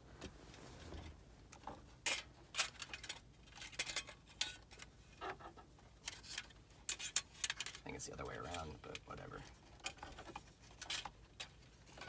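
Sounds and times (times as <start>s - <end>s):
plastic parts clicking and rattling: 1.5s - 12.0s.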